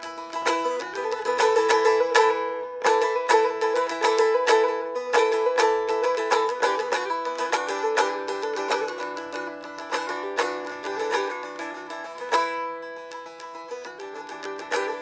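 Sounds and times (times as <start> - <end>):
plucked string instrument: 0.0 - 15.0.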